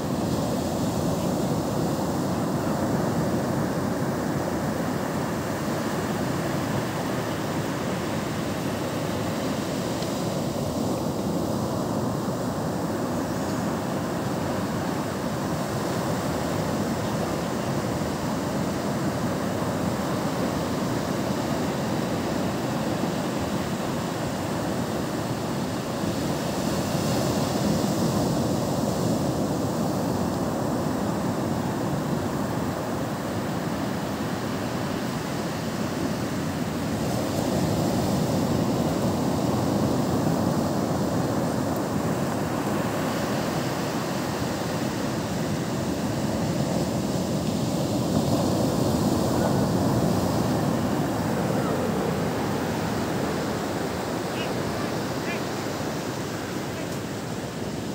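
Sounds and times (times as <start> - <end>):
surf breaking on beach: 0.0 - 57.9.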